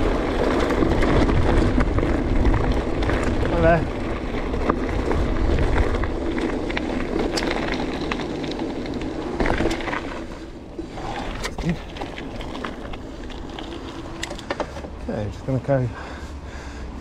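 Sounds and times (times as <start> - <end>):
wind rumbling on microphone: 0.0 - 14.6
bike clicks and rattles: 0.0 - 15.8
bike tyres crunching on gravel: 0.0 - 16.8.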